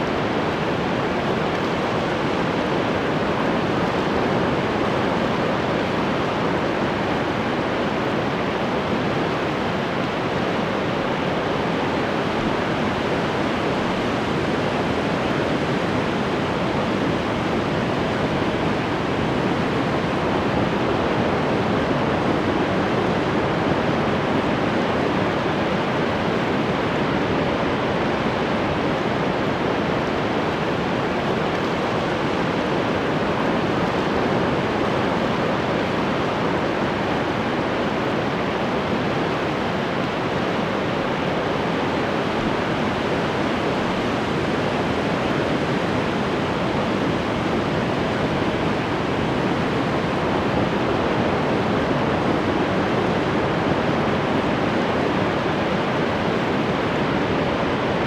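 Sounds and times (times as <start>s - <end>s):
ocean waves washing: 0.0s - 20.7s, 23.0s - 58.0s.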